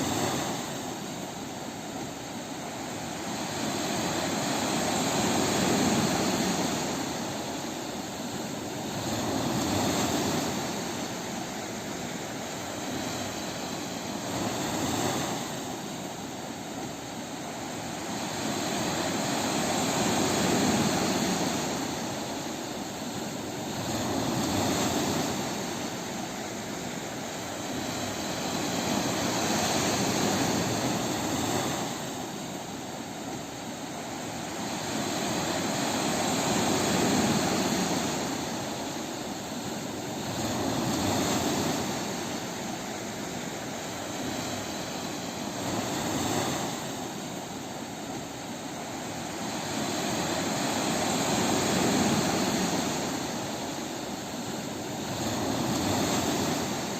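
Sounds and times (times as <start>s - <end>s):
ocean waves breaking on beach: 0.0s - 56.9s.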